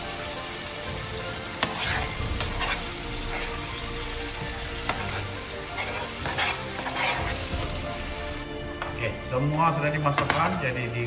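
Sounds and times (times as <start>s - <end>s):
curry sizzling in a frying pan: 0.0s - 9.0s.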